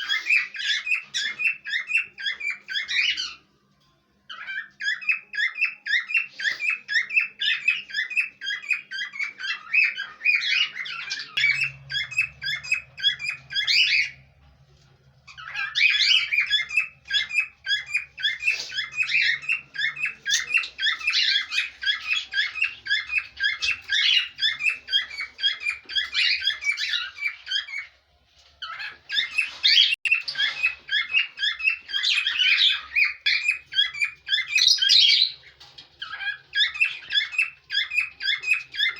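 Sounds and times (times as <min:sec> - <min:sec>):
parrots chirping rapidly: 0:00.0 - 0:03.5, 0:04.3 - 0:14.4, 0:15.2 - 0:28.0, 0:28.6 - 0:38.9.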